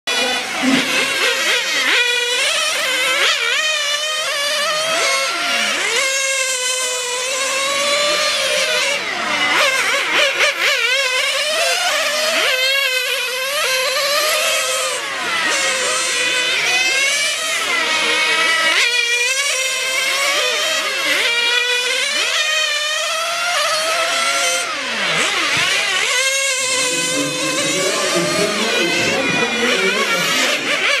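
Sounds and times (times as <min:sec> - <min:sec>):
radio-controlled car engines whining: 0:00.1 - 0:31.0.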